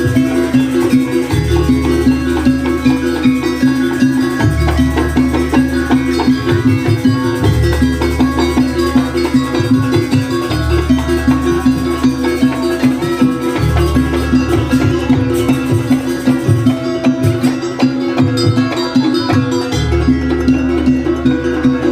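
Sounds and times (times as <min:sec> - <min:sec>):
gamelan percussion beat: 0:00.0 - 0:21.9.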